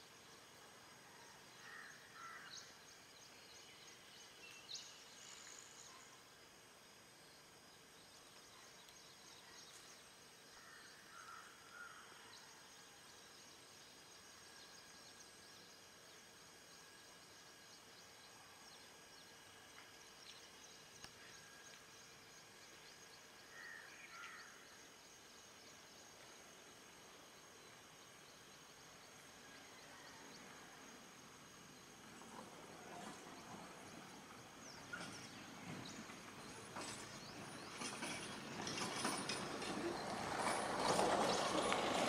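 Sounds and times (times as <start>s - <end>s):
steady high hum: 0.0s - 42.0s.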